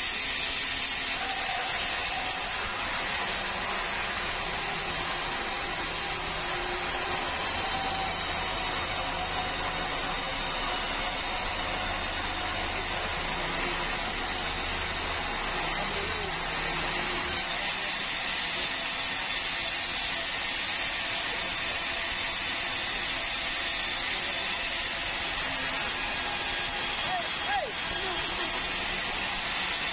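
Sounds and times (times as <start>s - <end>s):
sawmill saw cutting timber: 0.0s - 29.9s.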